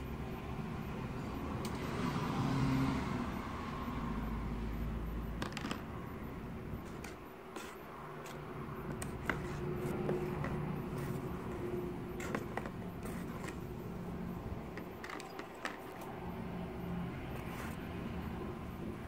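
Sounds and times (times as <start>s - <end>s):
steady low hum: 3.2s - 19.0s.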